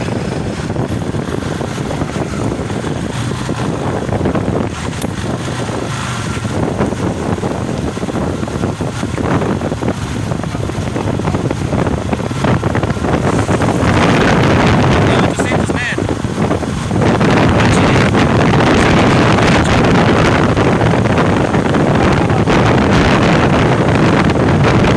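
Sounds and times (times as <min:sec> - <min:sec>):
motorcycle engine: 0:00.0 - 0:24.9
road noise: 0:00.0 - 0:24.9
wind rushing over microphone: 0:00.0 - 0:24.9.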